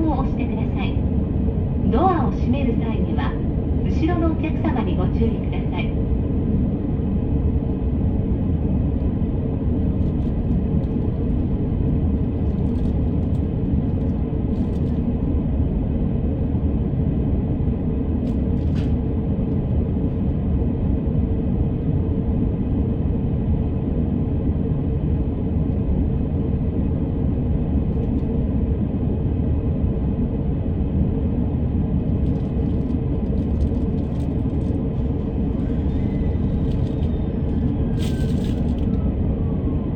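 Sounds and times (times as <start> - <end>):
train rumbling inside car: 0.0 - 39.9.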